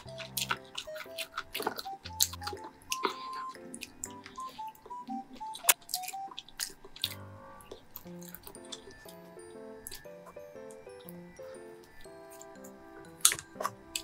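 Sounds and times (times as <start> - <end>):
background music melody: 0.0 - 14.0
person chewing: 0.0 - 14.0.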